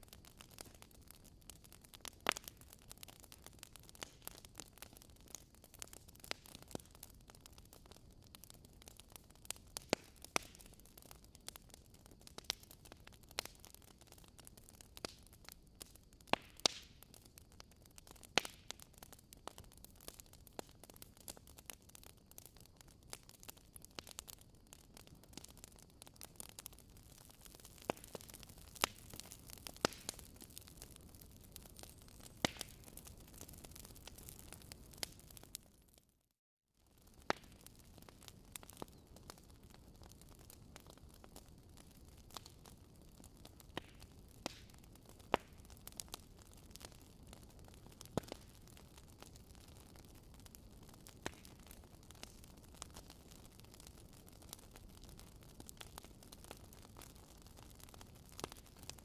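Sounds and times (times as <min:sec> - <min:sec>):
wood fire crackling: 0:00.0 - 0:36.0, 0:36.9 - 0:59.0.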